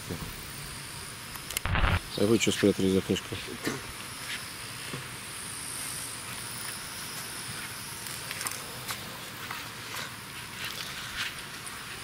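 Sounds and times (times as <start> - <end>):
insects chirring: 0.4 - 11.9.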